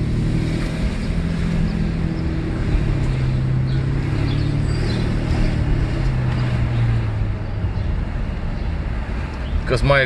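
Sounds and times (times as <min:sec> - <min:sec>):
car engine and loud exhaust: 0:00.0 - 0:10.0.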